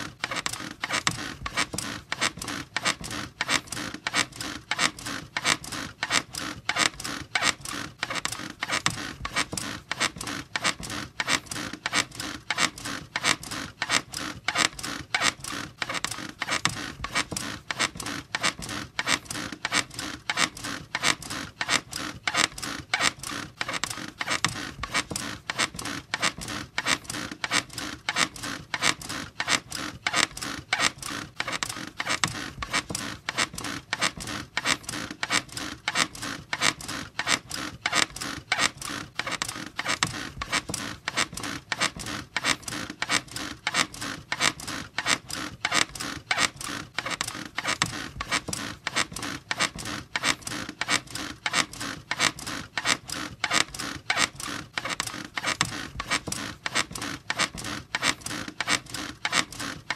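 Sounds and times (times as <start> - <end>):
bed springs squeaking: 0.0 - 59.9.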